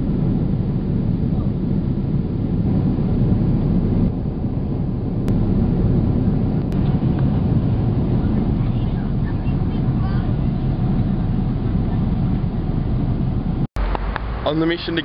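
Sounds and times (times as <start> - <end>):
airliner cabin jet engine drone: 0.0 - 15.0.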